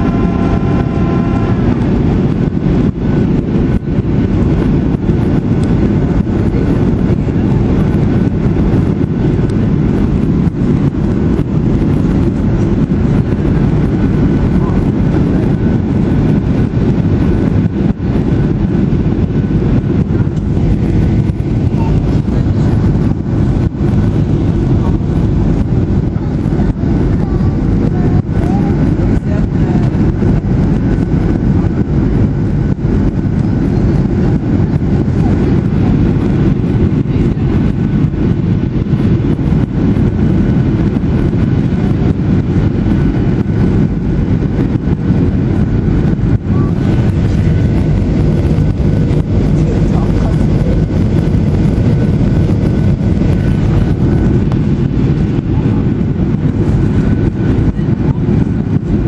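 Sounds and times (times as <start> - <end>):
airplane cabin engine roar: 0.0 - 59.0
faint steady whine: 0.0 - 59.0.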